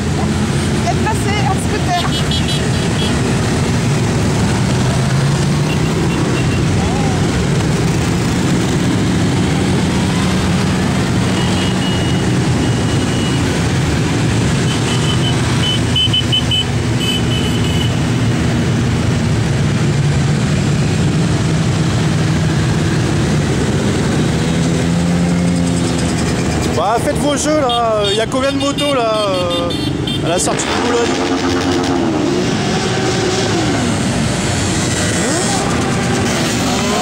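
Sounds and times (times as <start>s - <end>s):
motorcycle engines passing: 0.0s - 37.0s.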